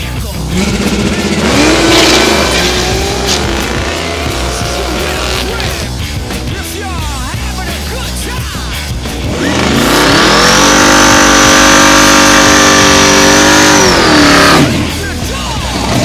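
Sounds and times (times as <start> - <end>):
car engine revving: 0.0 - 7.2, 8.0 - 16.0
tires spinning: 0.4 - 6.5, 9.1 - 16.0.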